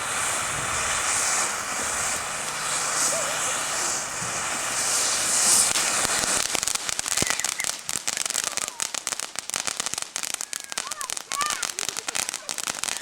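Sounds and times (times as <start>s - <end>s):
firework fountain hissing and crackling: 0.0s - 13.0s.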